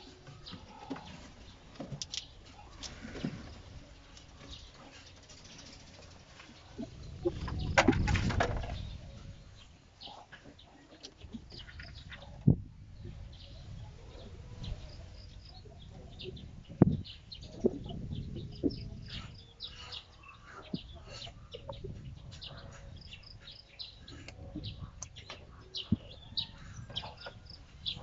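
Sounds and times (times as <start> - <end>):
birds chirping: 0.0 - 28.0
chickens clucking: 0.0 - 28.0.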